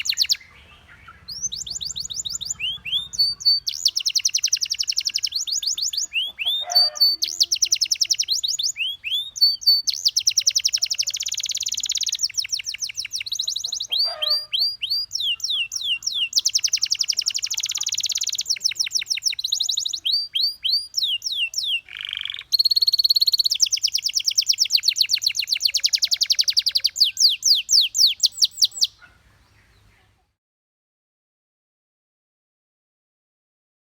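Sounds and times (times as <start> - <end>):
sweeping bird whistles: 0.0 - 0.5, 1.1 - 29.0
canary singing trills: 0.0 - 30.2.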